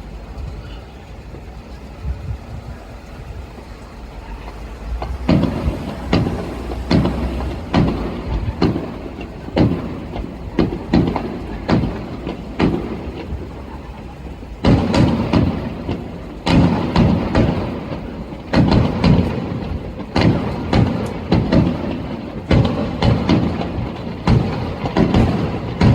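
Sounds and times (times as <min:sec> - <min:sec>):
fireworks booming: 0:00.0 - 0:25.9.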